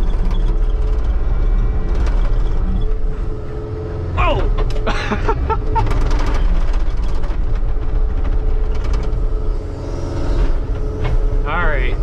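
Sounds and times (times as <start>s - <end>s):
diesel engine running under load: 0.0s - 12.0s
hydraulic whine: 0.0s - 12.0s
sharp creaks and clanks: 0.0s - 12.0s.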